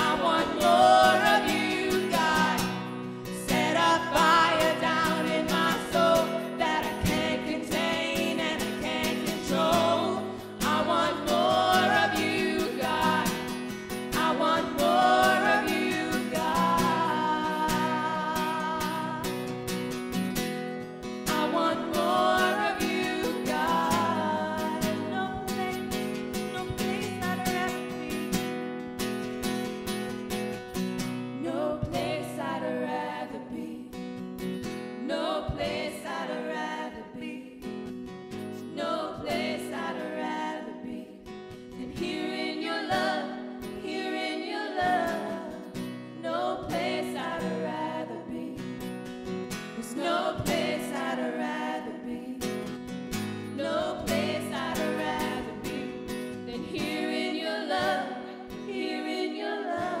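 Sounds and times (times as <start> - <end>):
group singing worship song: 0.0 - 19.4, 21.2 - 28.4, 31.4 - 34.0, 34.6 - 37.8, 38.6 - 60.0
woman singing lead: 0.0 - 19.5, 21.2 - 28.5, 31.3 - 34.0, 35.0 - 37.8, 38.6 - 48.8, 49.6 - 52.7, 53.4 - 60.0
acoustic guitar: 0.0 - 60.0.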